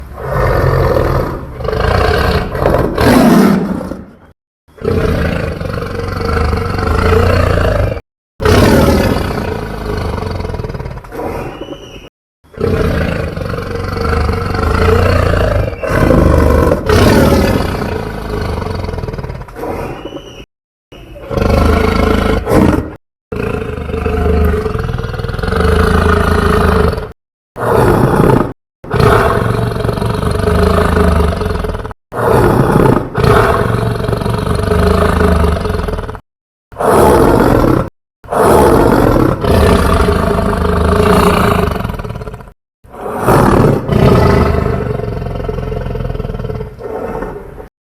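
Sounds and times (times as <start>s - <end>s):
dinosaur roars with deep rumble: 4.8s - 11.4s, 12.6s - 19.7s, 21.4s - 36.2s, 36.8s - 47.7s.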